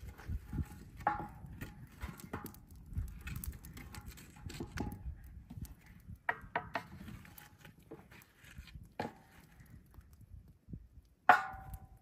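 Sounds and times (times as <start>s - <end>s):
campfire crackling and popping: 0.0s - 12.0s
low wind rumble: 0.0s - 12.0s.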